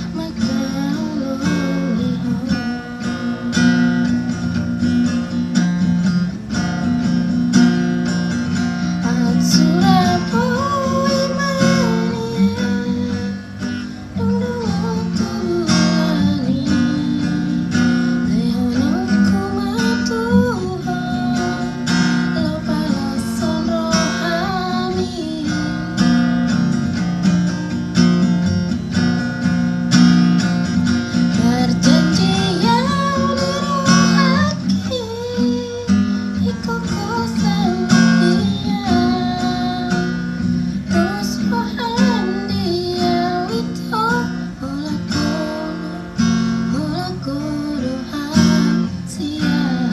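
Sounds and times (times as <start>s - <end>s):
woman singing: 0.0s - 27.8s, 30.4s - 49.9s
strummed acoustic guitar: 0.0s - 49.9s.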